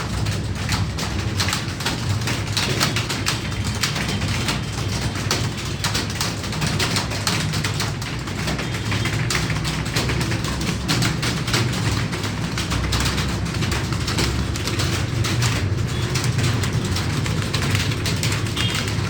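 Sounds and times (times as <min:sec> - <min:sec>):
keyboards typing clatter: 0:00.0 - 0:19.0.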